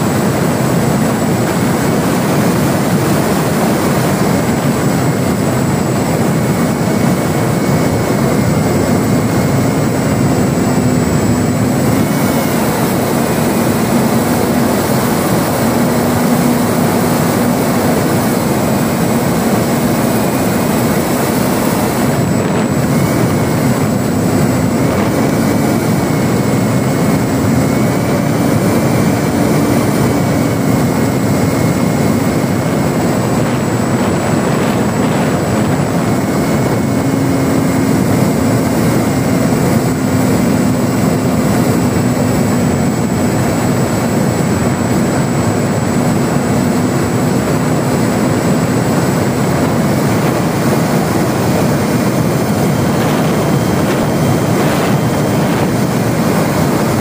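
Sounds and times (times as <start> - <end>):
model plane motor droning: 0.0 - 57.0
rush of air: 0.0 - 57.0.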